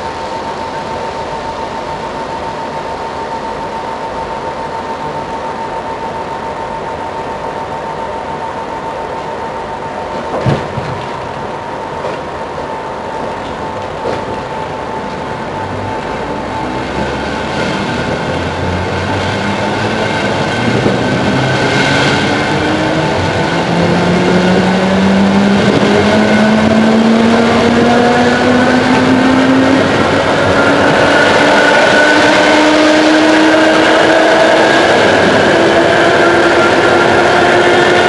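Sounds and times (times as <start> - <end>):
wheels rumbling on rails: 0.0 - 38.0.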